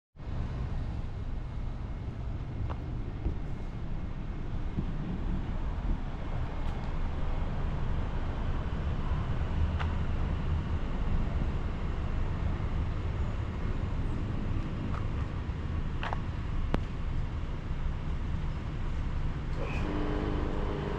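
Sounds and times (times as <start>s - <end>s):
low mechanical rumble: 0.2s - 20.9s.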